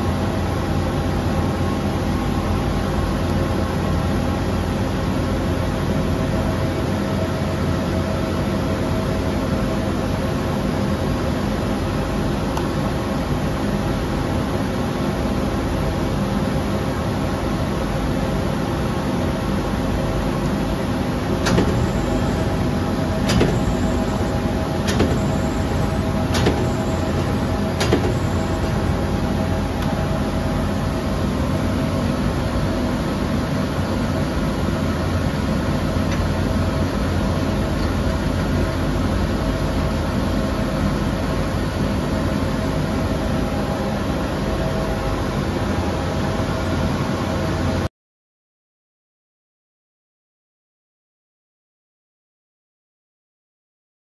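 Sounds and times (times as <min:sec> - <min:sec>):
industrial machinery humming: 0:00.0 - 0:47.9.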